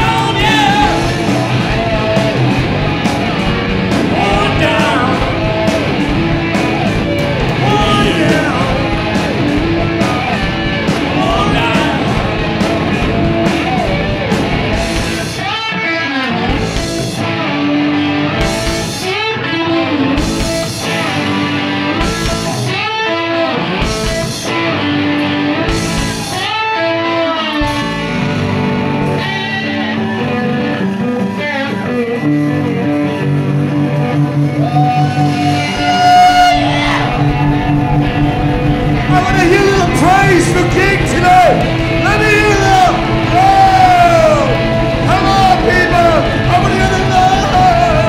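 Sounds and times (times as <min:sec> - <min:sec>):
electric guitar lead line: 0:00.0 - 0:48.0
rock band playing: 0:00.0 - 0:48.0.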